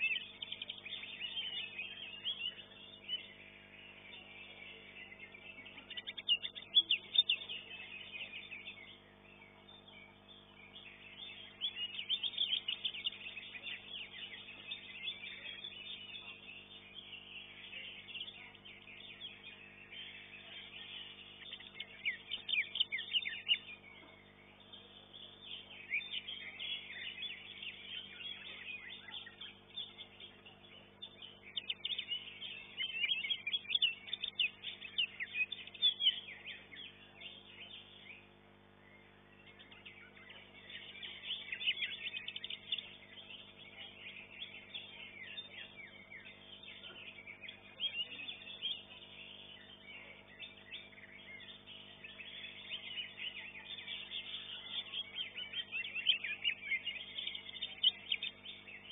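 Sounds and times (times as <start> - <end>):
bird chirping and trilling: 0.0 - 58.9
low electrical hum: 0.0 - 58.9.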